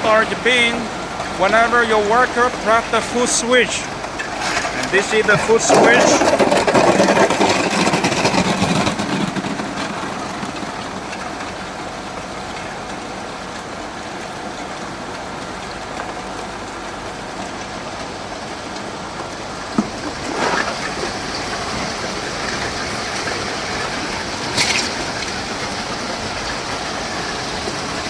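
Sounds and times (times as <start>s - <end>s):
ice machine humming: 0.0s - 28.0s.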